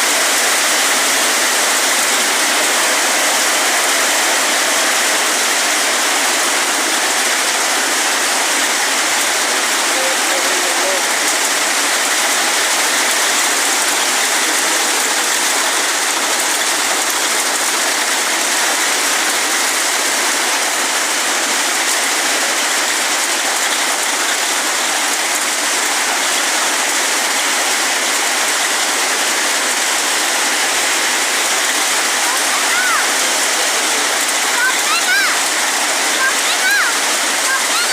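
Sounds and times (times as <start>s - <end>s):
heavy rain: 0.0s - 37.9s.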